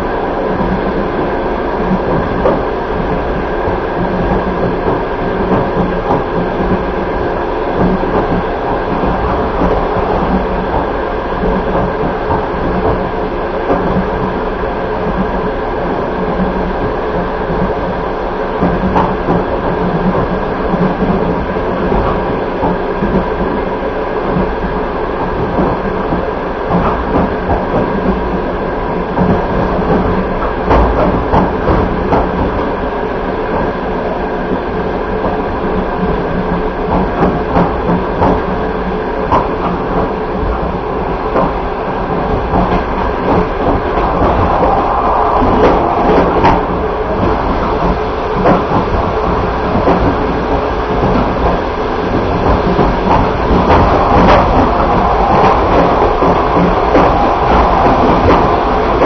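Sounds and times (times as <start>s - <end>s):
train rumbling on rails: 0.0s - 59.0s
train wheel clicks and knocks: 0.4s - 59.0s.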